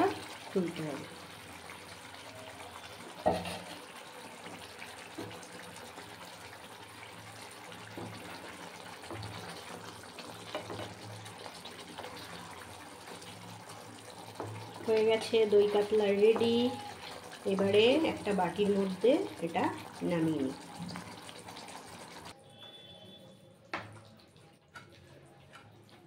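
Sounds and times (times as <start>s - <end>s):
curry bubbling in a pan: 0.0s - 26.0s.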